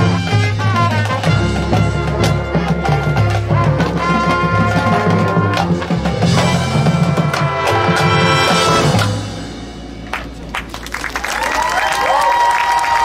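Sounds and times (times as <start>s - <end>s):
timpani: 0.0s - 11.2s
marching band playing chords: 0.0s - 11.8s.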